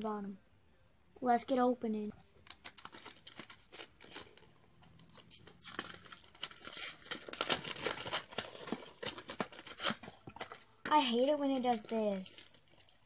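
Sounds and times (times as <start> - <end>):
plastic packaging crinkling and tearing: 2.4 - 13.0.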